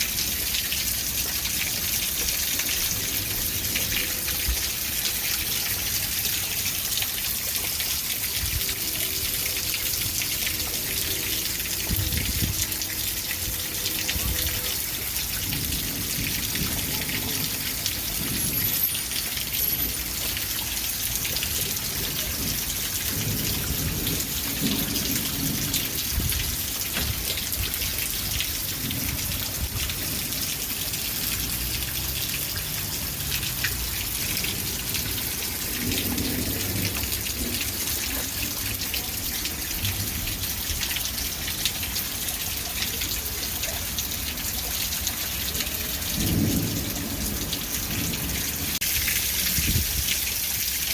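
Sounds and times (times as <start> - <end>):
rain hissing: 0.0 - 50.9.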